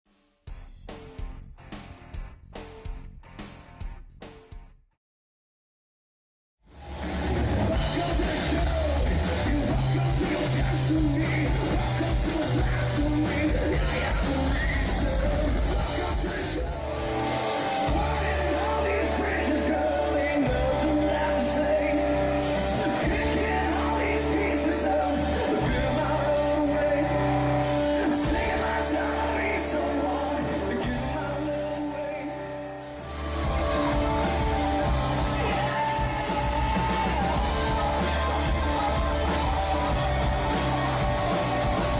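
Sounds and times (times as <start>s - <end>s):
rock band playing: 0.5s - 4.7s, 6.7s - 41.9s
person singing: 7.6s - 41.9s.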